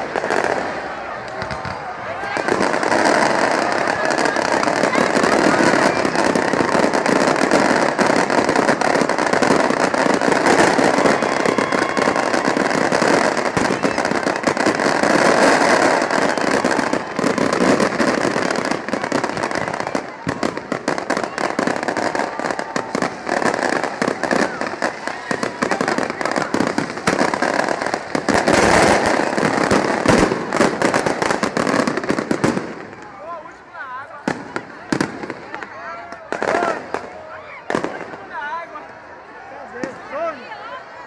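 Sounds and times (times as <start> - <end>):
fireworks bursting and crackling: 0.0 - 39.1
crowd voices: 0.0 - 41.0.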